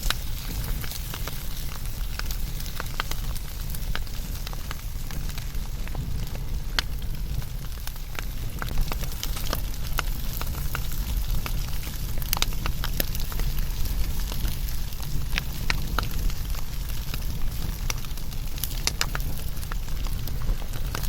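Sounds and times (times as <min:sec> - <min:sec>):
fire crackling and popping: 0:00.0 - 0:21.0
wood fire rumbling: 0:00.0 - 0:21.0.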